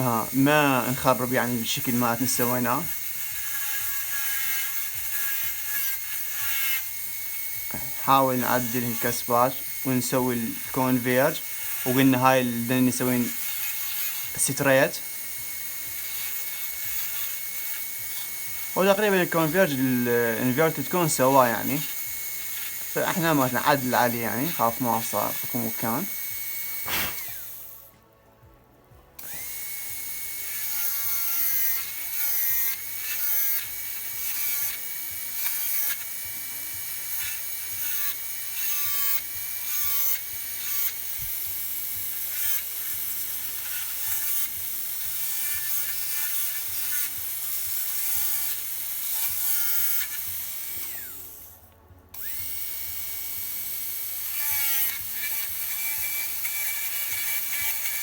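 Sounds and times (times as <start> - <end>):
dental drill whining: 0.0 - 28.0, 29.2 - 58.0.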